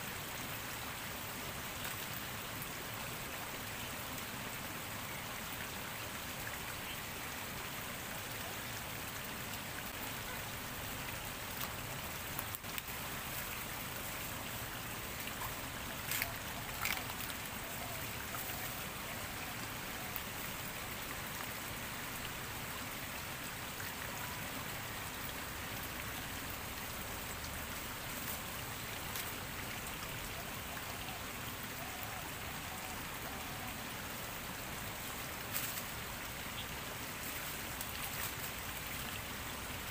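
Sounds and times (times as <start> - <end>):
stream running over its bed: 0.0 - 39.9.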